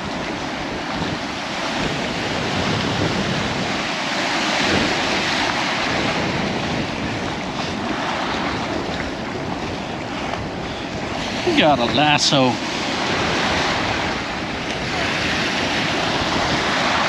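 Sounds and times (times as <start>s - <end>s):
surf washing on beach: 0.0s - 17.0s
wind buffeting microphone: 0.0s - 17.0s.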